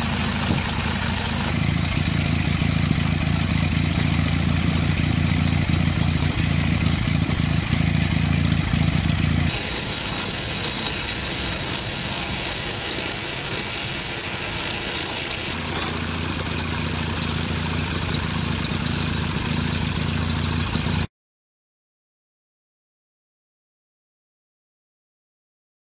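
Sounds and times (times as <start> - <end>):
boat engine running: 0.0 - 21.1.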